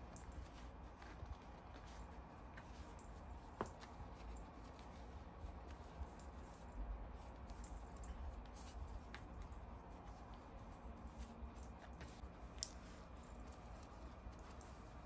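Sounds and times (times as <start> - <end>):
small clicks and taps: 0.0 - 15.0.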